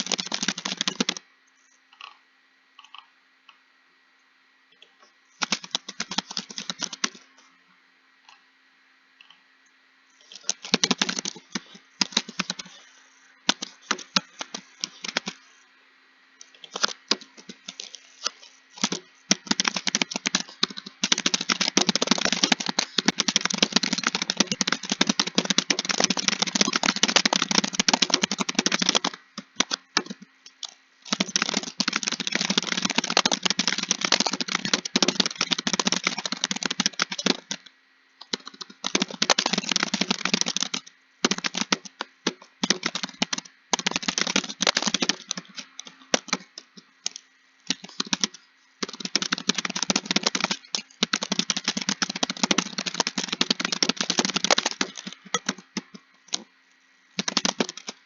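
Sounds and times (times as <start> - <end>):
keyboard typing: 0.0 - 1.2, 5.4 - 7.4, 10.2 - 15.6, 16.4 - 56.5, 57.2 - 58.0.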